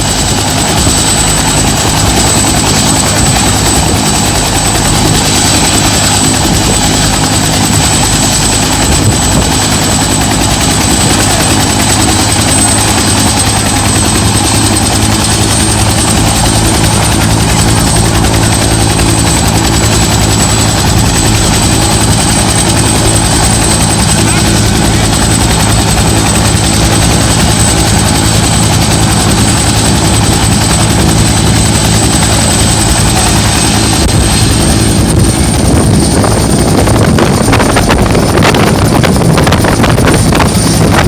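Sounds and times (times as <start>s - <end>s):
helicopter rotor beat: 0.0s - 41.0s
helicopter turbine whine: 0.0s - 41.0s.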